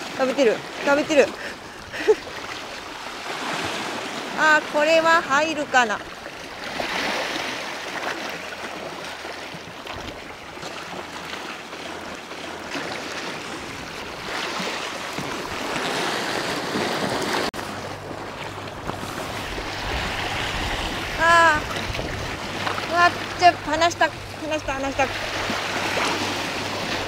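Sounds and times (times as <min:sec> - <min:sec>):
waves washing against rocks: 0:00.0 - 0:27.0.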